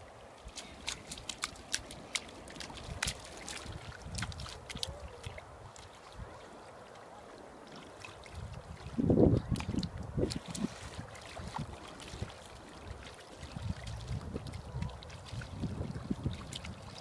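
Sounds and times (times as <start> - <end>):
feet splashing in shallow water: 0.0 - 17.0
wind rumbling on microphone: 0.0 - 17.0.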